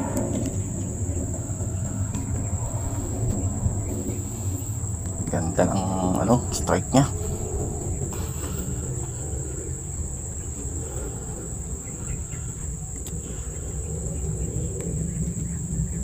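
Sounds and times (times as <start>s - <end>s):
insects shrilling: 0.0s - 16.0s
low rumble: 0.0s - 16.0s.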